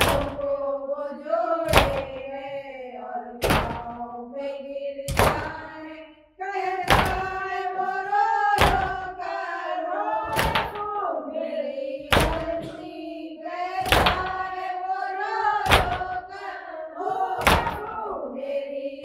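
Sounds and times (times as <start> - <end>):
person chanting a lament: 0.0 - 19.0.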